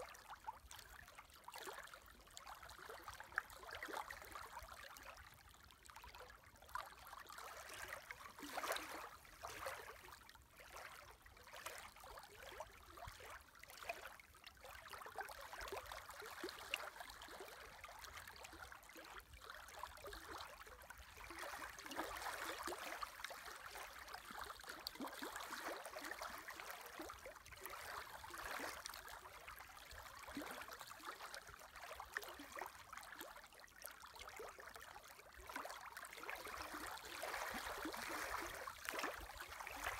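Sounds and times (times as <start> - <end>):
small waves lapping: 5.9 - 14.8, 15.5 - 33.5, 34.2 - 39.9.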